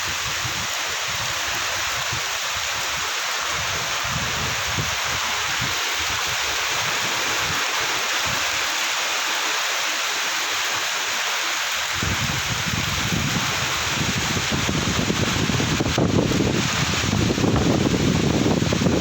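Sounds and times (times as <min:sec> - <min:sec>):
wind buffeting microphone: 0:00.0 - 0:08.6, 0:11.8 - 0:19.0
heavy rain pouring: 0:00.0 - 0:19.0.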